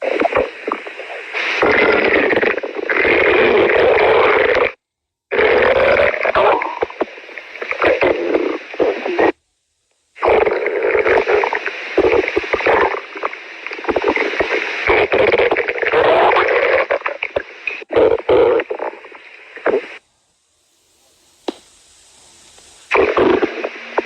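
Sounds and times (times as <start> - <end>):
stomach growling and gurgling: 0.0 - 9.4, 10.2 - 20.0, 22.9 - 24.0.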